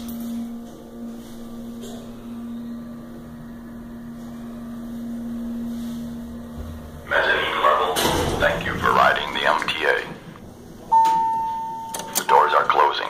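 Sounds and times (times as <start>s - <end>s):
elevator hum: 0.0s - 13.0s.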